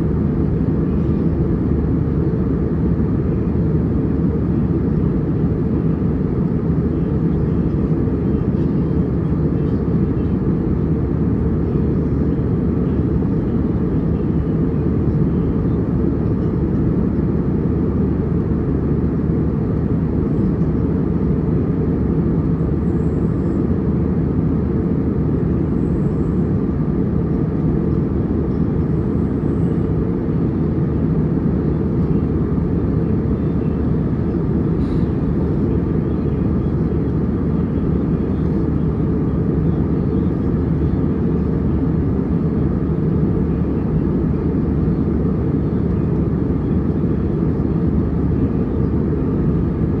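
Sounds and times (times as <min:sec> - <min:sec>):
airliner cabin engine rush: 0:00.0 - 0:50.0.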